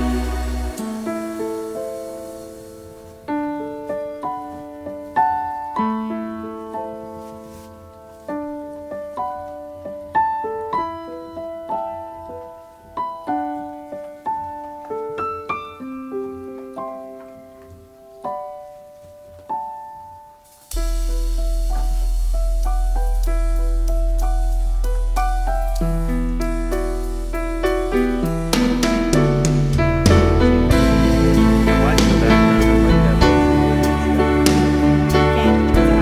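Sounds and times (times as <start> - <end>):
gentle solo piano piece: 0.7 - 36.0.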